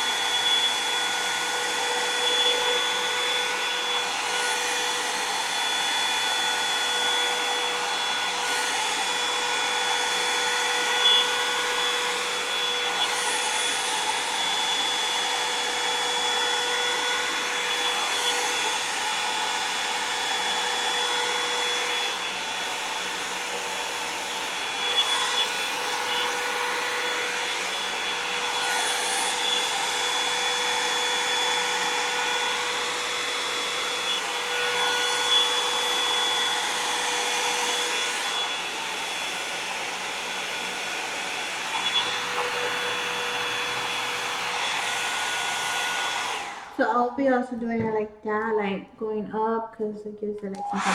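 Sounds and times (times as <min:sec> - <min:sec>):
hair dryer fan whining: 0:00.0 - 0:48.0, 0:50.4 - 0:50.9.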